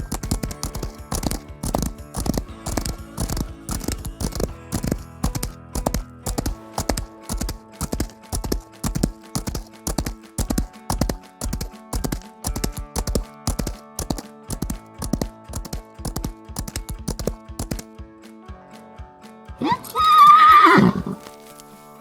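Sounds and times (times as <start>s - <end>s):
background music with percussive beat: 0.0s - 18.4s.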